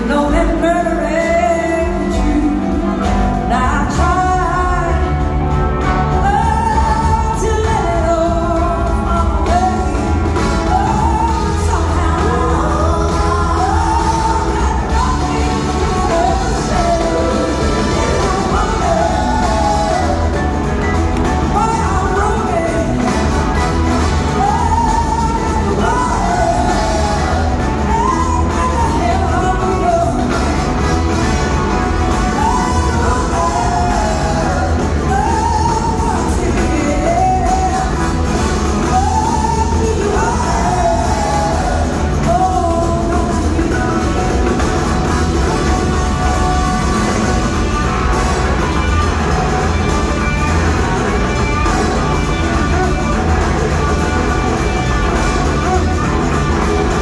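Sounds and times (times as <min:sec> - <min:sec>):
live band playing: 0:00.0 - 0:57.0
woman singing: 0:00.0 - 0:57.0.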